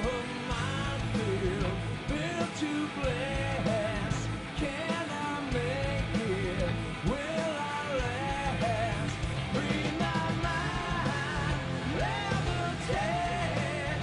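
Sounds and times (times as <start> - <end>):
hard rock band playing: 0.0 - 14.0
man singing into microphone: 0.0 - 14.0.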